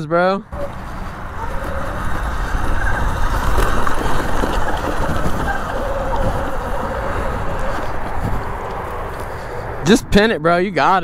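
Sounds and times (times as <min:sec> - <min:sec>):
wind rushing on microphone: 0:00.5 - 0:11.0.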